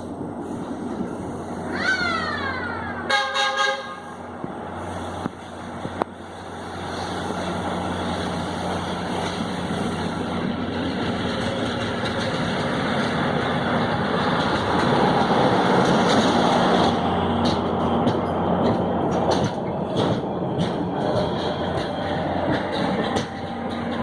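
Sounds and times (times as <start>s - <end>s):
diesel train engine humming: 0.0s - 24.0s.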